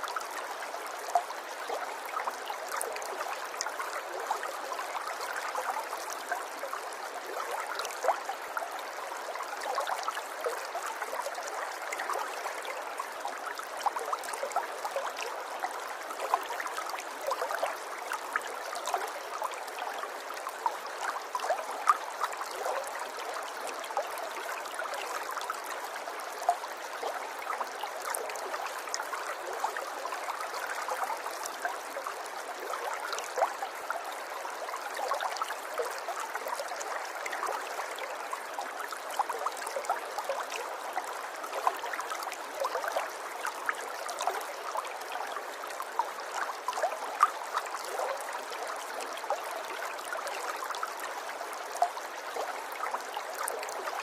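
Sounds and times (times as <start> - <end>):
river water flowing and burbling: 0.0 - 54.0.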